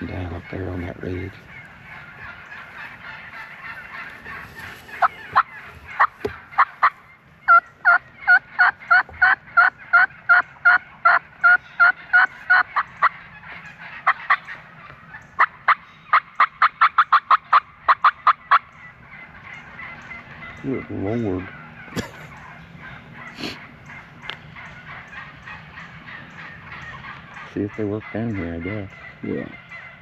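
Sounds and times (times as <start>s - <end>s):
turkey yelping: 0.0s - 30.0s.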